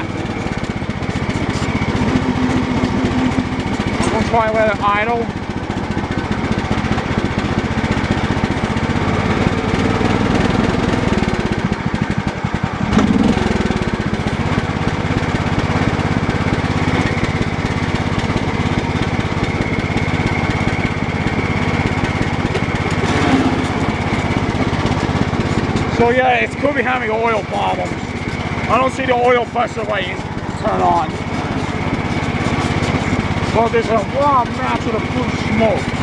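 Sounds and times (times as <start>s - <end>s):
lawn tractor engine idling: 0.0s - 36.0s.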